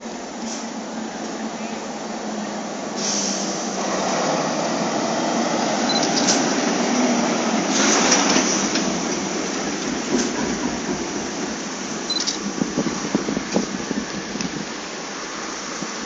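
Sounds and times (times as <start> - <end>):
heavy truck engine and tyres: 0.0 - 16.0.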